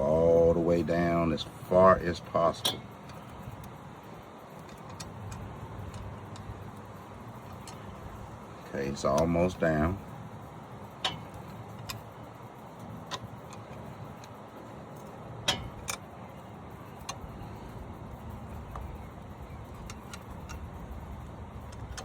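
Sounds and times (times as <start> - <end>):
low background rumble: 0.0 - 22.0
light metallic clicks and clinks: 0.8 - 22.0.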